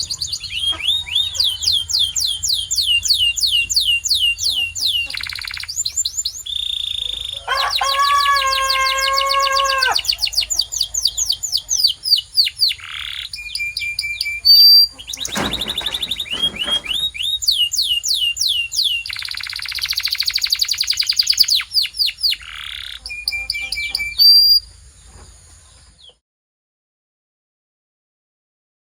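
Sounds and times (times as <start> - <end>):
canary singing: 0.0 - 24.7.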